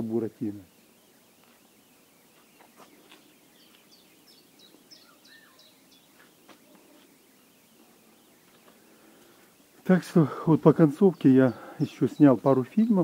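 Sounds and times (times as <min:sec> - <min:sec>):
small bird chirping: 0:00.3 - 0:10.0, 0:10.8 - 0:13.0.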